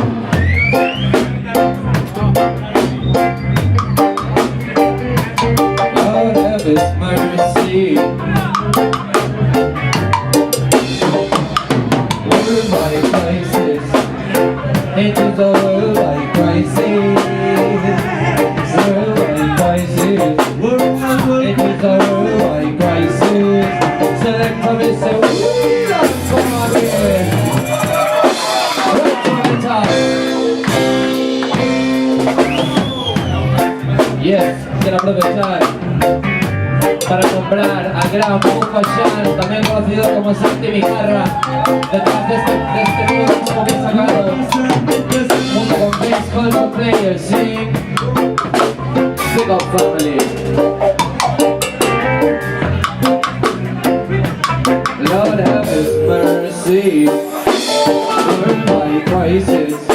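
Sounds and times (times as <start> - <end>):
bass drum: 0.0 - 56.2, 57.4 - 59.9
bass line: 0.0 - 59.9
reggae band playing: 0.0 - 59.9.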